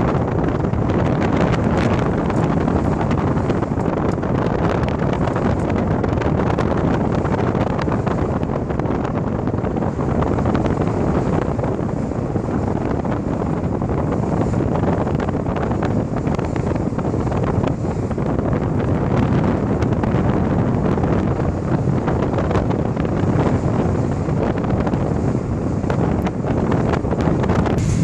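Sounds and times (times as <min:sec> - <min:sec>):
car driving rumble: 0:00.0 - 0:28.0
wind buffeting microphone: 0:00.0 - 0:28.0.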